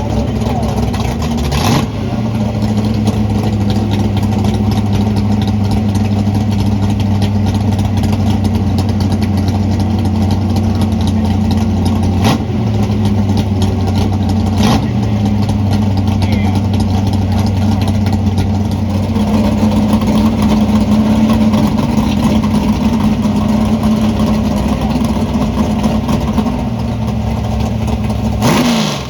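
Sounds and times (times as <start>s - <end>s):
car engine droning: 0.0s - 29.0s.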